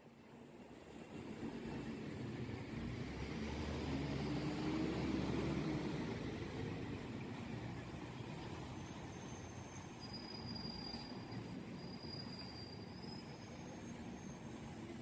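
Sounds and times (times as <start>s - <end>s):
fire truck driving past: 1.2s - 15.0s.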